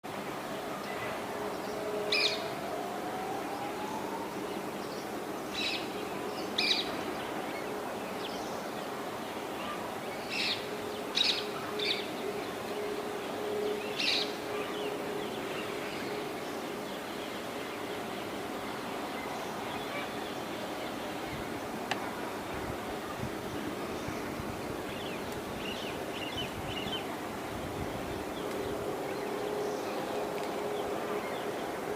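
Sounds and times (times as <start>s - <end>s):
outdoor background noise: 0.0s - 31.9s.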